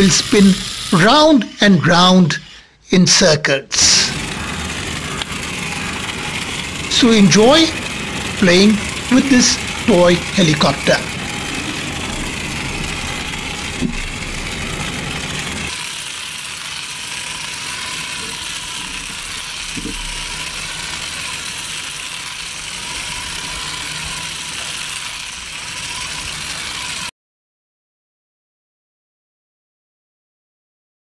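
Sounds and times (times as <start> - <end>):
toy helicopter motor whirring: 0.0 - 27.1.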